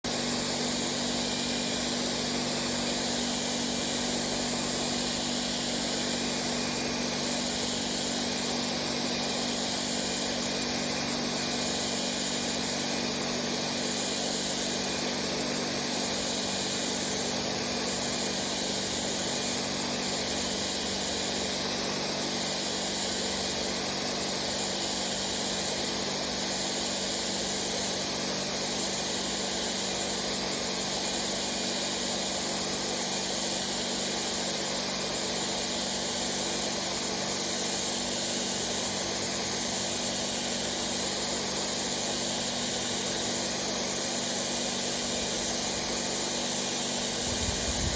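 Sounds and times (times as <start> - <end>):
pressure washer hum: 0.0 - 47.9.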